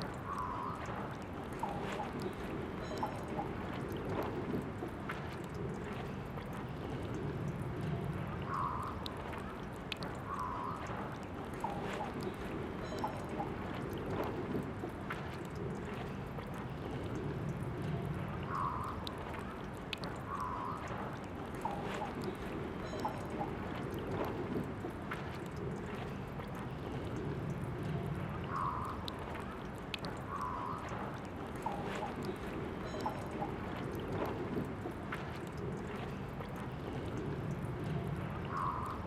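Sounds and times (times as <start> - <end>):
water drips: 0.0 - 39.0
water trickling from fountain: 0.0 - 39.0.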